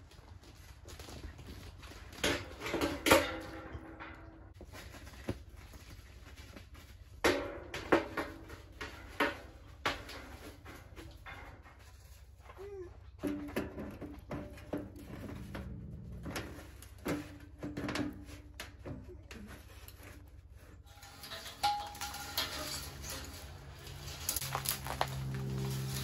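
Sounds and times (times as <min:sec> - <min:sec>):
metal pipes clanking and scraping: 0:01.3 - 0:05.3, 0:06.6 - 0:12.4, 0:13.0 - 0:26.0.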